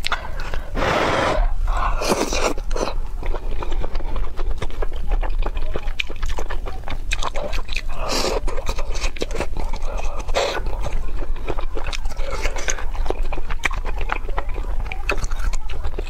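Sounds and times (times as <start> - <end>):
wet chewing and mouth clicks: 0.0 - 0.8, 1.6 - 16.0
low steady hum: 0.0 - 16.0
noisy slurps: 0.0 - 16.0.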